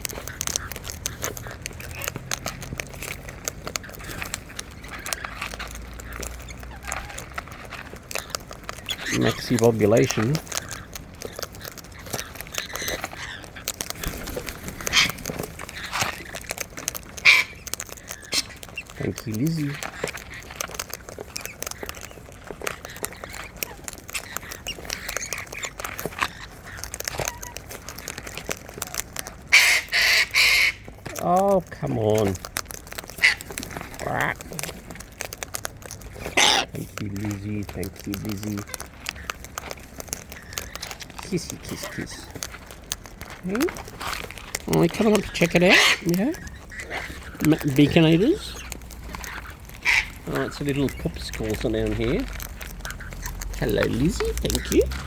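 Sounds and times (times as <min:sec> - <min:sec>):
birds cracking seed: 0:00.0 - 0:55.0.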